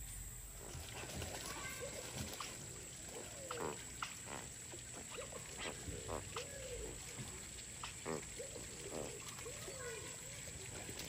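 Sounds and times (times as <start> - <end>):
flamingos honking: 0.8 - 11.0.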